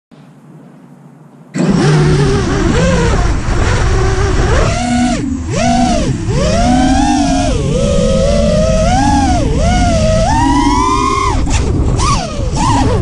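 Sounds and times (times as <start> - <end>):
drone motors whining: 1.6 - 13.0.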